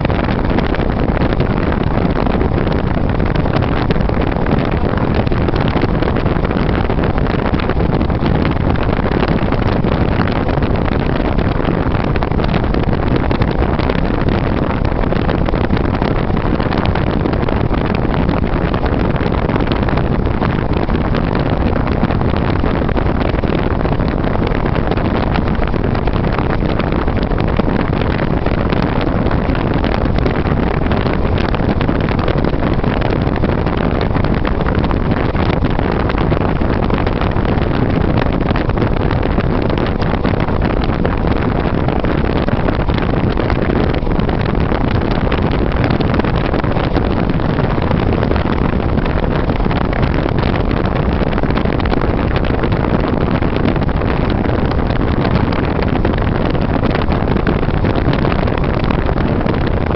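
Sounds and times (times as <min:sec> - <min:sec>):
loud steady rushing noise: 0:00.0 - 0:59.9.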